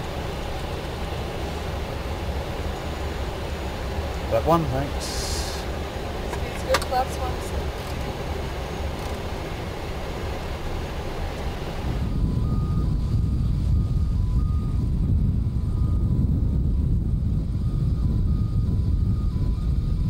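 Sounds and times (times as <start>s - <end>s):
airflow and jet engine noise: 0.0s - 20.0s.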